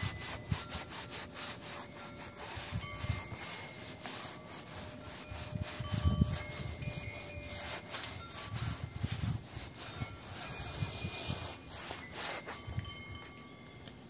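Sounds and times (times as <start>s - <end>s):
sponge scrubbing fabric: 0.0s - 12.8s.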